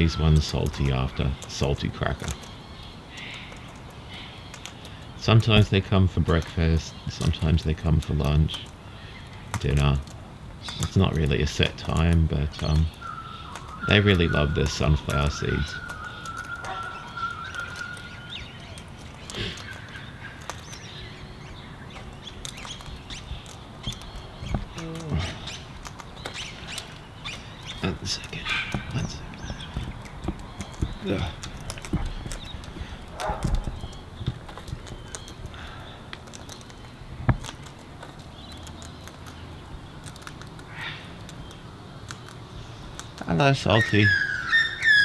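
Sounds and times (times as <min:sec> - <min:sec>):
beaks cracking seeds: 0:00.0 - 0:44.2
birds chirping: 0:00.0 - 0:45.0
outdoor background noise: 0:00.0 - 0:45.0
sharp clicks: 0:00.4 - 0:21.1, 0:21.8 - 0:43.5.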